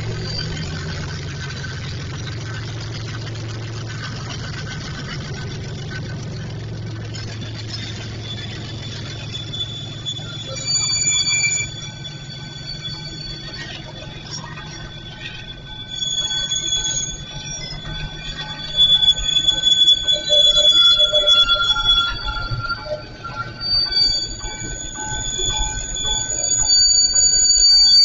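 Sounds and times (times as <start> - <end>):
freight train rumbling: 0.0 - 28.0
steel wheels squealing: 0.0 - 28.0.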